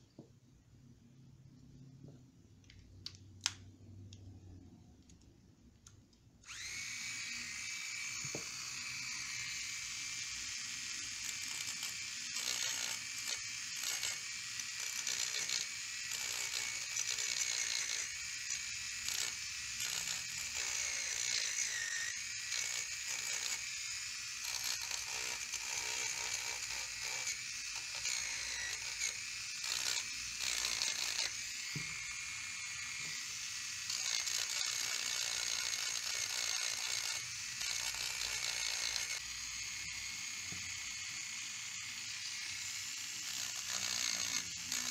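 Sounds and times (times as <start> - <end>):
electric nail file motor whine: 6.4 - 44.9.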